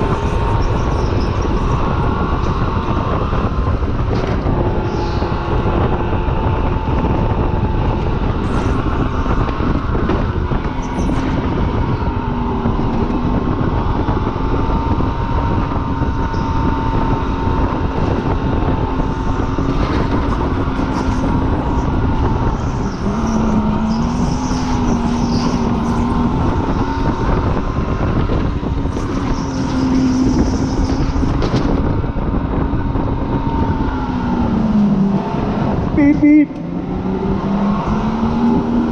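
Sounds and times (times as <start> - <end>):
car engine running hard: 0.0 - 38.9
road and wind noise: 0.0 - 38.9.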